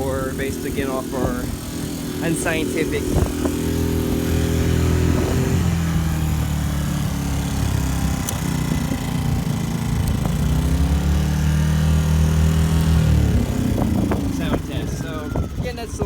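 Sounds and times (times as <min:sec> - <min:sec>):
generator engine humming: 0:00.0 - 0:16.0.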